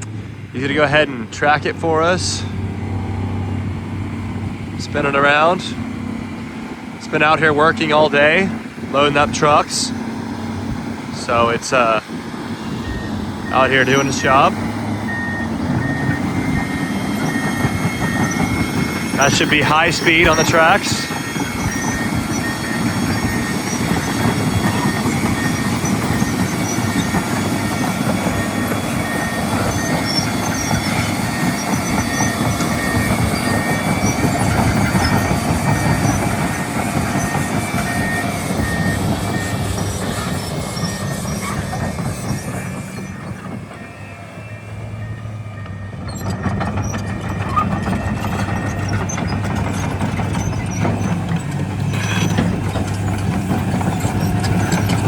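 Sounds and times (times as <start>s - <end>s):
crawler tracks clanking and grinding: 0.0s - 55.0s
diesel engine running: 0.0s - 55.0s.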